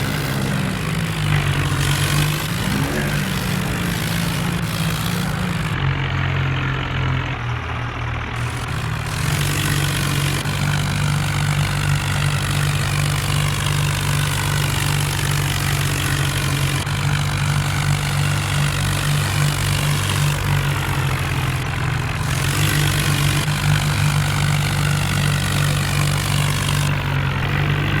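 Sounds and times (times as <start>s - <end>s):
diesel tractor engines running: 0.0s - 28.0s.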